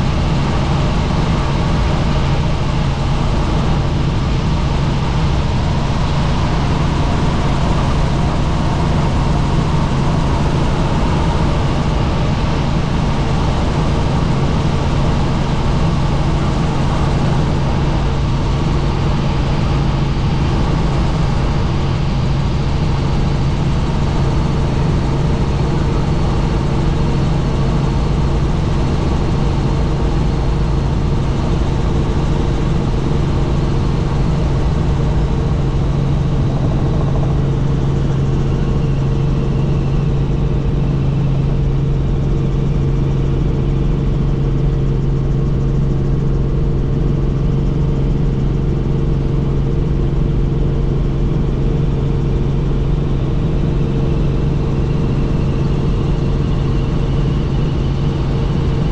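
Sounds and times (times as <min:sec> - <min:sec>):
helicopter turbine and rotors drone: 0:00.0 - 0:58.9
low hum: 0:00.0 - 0:58.9.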